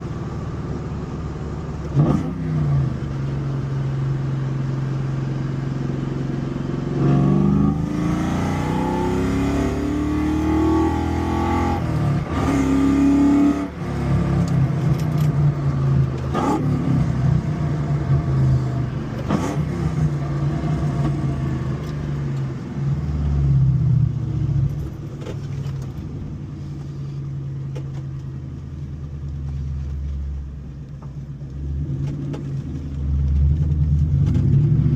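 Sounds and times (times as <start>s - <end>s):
car engine revving and idling: 0.0s - 34.9s.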